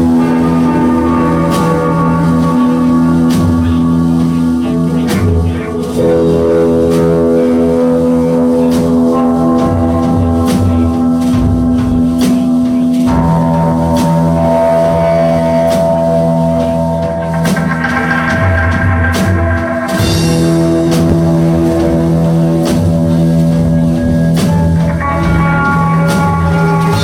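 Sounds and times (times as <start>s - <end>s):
rock band droning chord: 0.0s - 27.0s.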